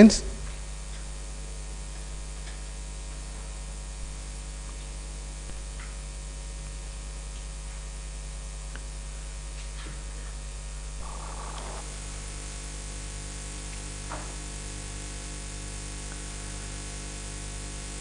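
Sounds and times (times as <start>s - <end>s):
electrical mains hum and hiss: 0.0s - 18.0s.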